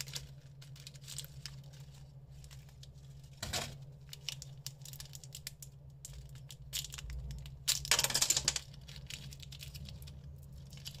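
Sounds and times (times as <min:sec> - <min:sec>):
low steady hum: 0:00.0 - 0:11.0
plastic wrapper crinkling: 0:00.0 - 0:11.0.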